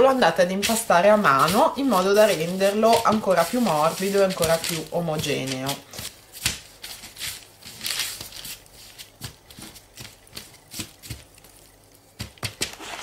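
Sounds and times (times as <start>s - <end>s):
soft thumps of dough kneading: 0.0s - 12.8s
paper rustling: 0.0s - 13.0s.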